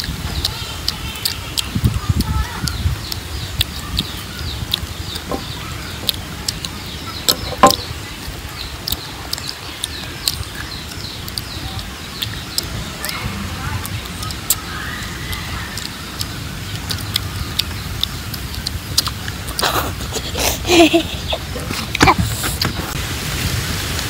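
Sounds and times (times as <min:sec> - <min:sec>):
chewing: 0:00.0 - 0:23.0
chickens clucking: 0:00.0 - 0:23.0.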